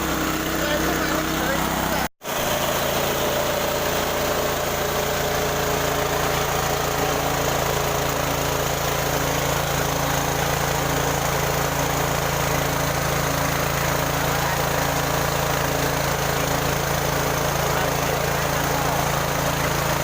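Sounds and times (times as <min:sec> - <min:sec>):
rice milling machine running: 0:00.0 - 0:20.0.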